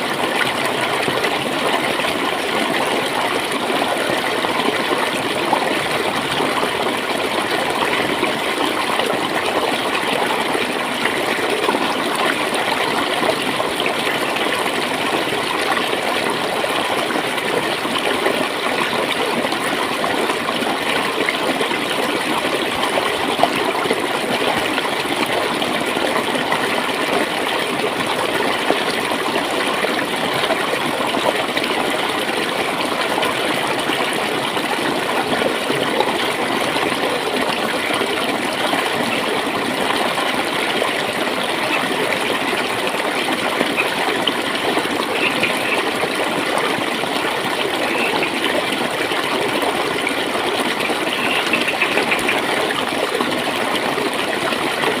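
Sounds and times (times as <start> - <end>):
running water gurgling: 0.0 - 55.0.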